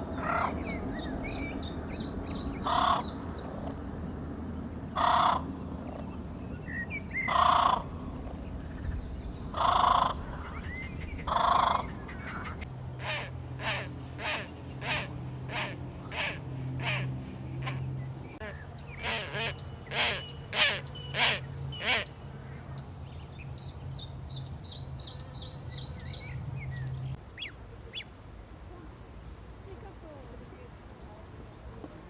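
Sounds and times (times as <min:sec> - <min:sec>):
loud bird calls: 0:00.0 - 0:03.9, 0:04.9 - 0:28.2.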